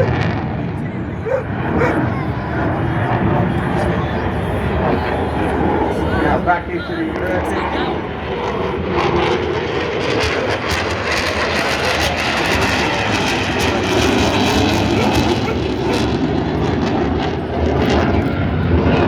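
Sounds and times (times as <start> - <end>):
loud jet engine noise: 0.0 - 19.0.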